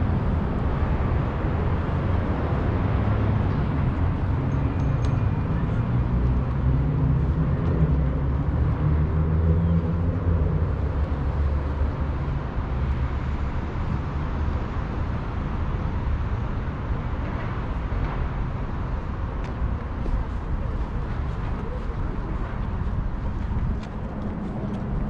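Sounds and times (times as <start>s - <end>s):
city traffic rumble: 0.0s - 25.0s
vehicle engine hum: 0.0s - 25.0s.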